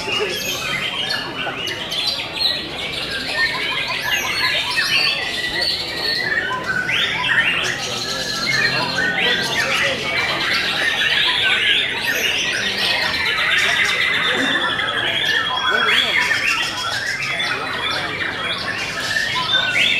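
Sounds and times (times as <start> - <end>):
birds singing whistles and chirps: 0.0 - 19.9.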